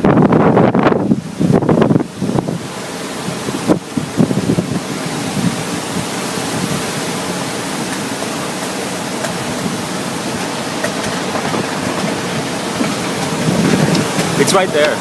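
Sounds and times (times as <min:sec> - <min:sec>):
strong wind on microphone: 0:00.0 - 0:07.5, 0:09.4 - 0:14.9.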